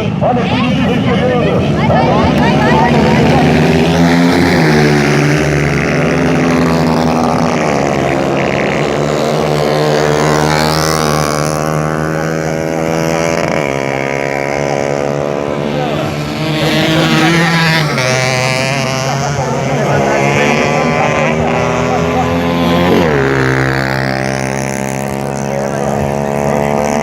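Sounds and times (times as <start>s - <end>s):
racing motorcycles revving: 0.0s - 27.0s.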